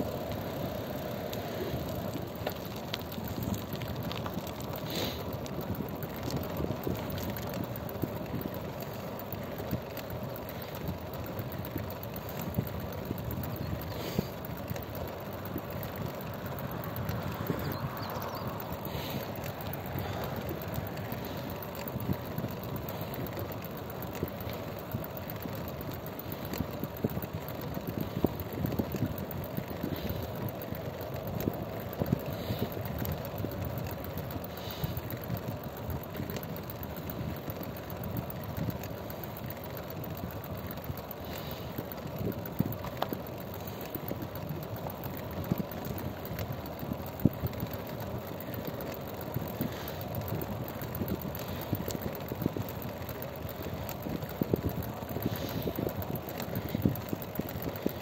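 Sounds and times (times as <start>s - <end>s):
road and wind noise: 0.0s - 58.0s
vehicle engine running: 0.0s - 58.0s.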